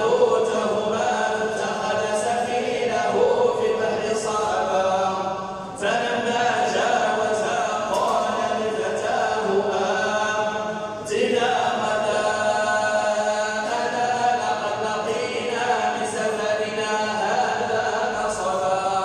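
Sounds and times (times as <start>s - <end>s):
person reciting in melodic chant: 0.0s - 19.0s.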